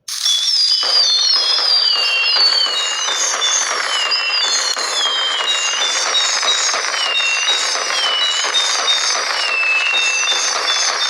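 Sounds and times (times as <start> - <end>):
fireworks crackling: 0.0 - 11.0
whistling fireworks: 0.0 - 11.0.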